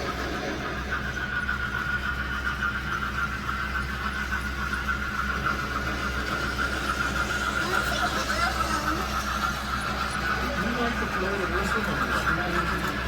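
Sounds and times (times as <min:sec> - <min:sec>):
model train high-pitched tone: 0:00.0 - 0:13.0.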